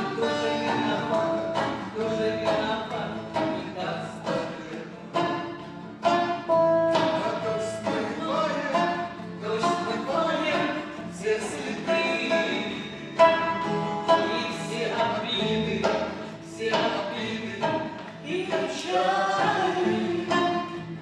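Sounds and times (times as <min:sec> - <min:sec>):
plucked acoustic guitar: 0:00.0 - 0:21.0.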